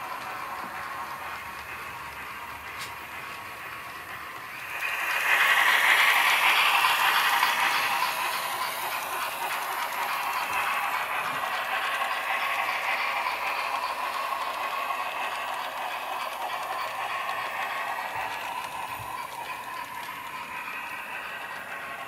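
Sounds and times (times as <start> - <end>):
model train wheels rattling: 0.0 - 22.0.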